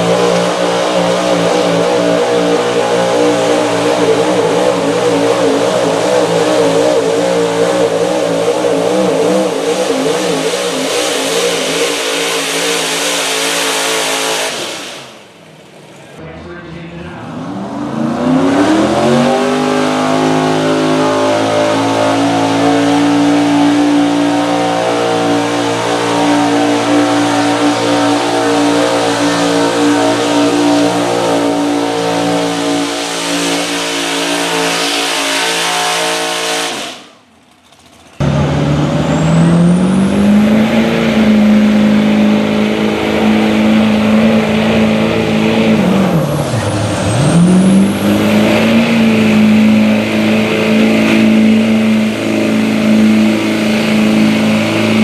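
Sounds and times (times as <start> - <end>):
high engine whine: 0.0 - 55.0
pickup truck engine revving: 0.0 - 55.0.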